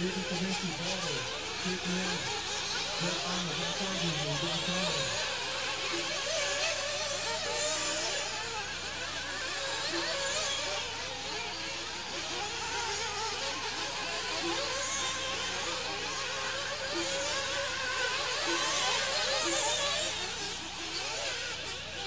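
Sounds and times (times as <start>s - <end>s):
model car engines whining: 0.0s - 22.0s.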